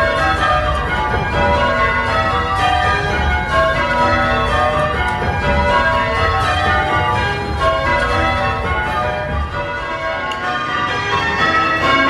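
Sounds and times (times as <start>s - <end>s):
church bells change-ringing: 0.0s - 12.0s.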